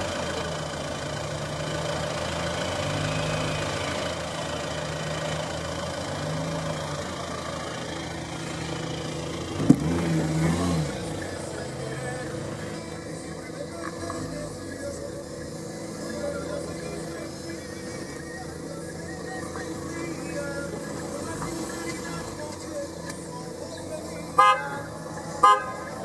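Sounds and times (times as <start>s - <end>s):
diesel engine idling and revving: 0.0s - 26.0s.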